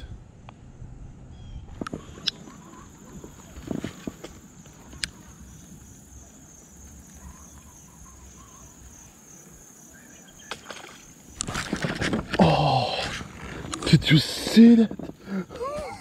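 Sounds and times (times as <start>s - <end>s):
high insect drone: 2.4s - 16.0s.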